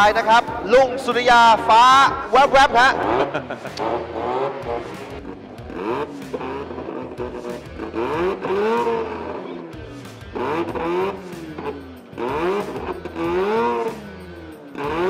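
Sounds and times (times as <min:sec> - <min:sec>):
rotary engine revving: 0:01.1 - 0:15.0.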